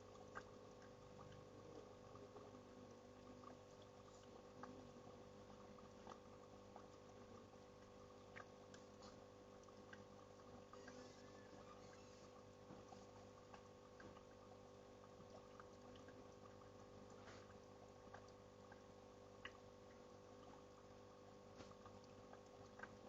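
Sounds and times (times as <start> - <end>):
small drips and clicks: 0.0 - 23.0
steady low hum: 0.0 - 23.0.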